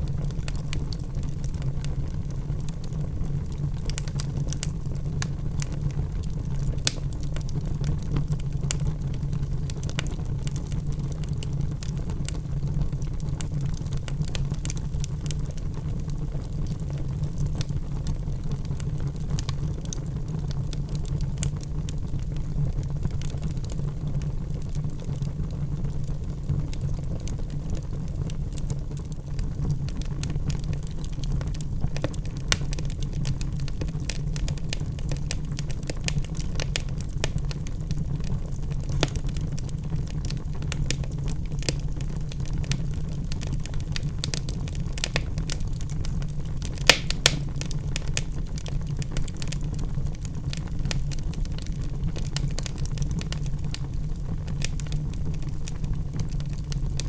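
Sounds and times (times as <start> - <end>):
logs crackling and popping: 0.0 - 57.0
low rumble of flames: 0.0 - 57.0.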